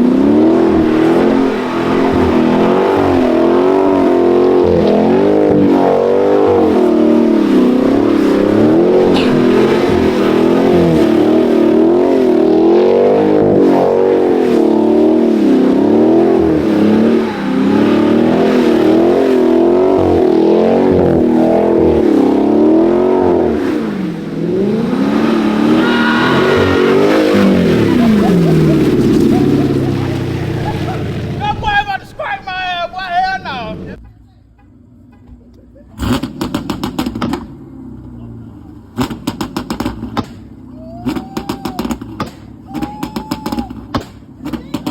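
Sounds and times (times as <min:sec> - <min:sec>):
car engine revving: 0:00.0 - 0:34.0, 0:34.7 - 0:42.8.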